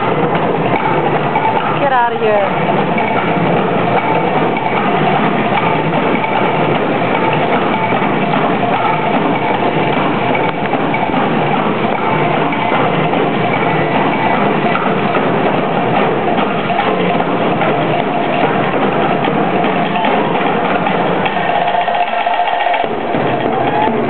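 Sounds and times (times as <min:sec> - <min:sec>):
drum ensemble fast rhythm: 0:00.0 - 0:24.0.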